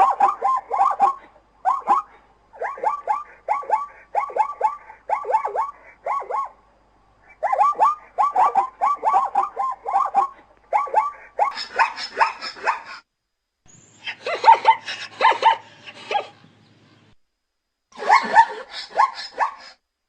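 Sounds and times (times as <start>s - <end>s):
zebra yelping barks: 0.0s - 6.6s, 7.2s - 13.0s, 14.0s - 16.4s, 18.0s - 19.8s.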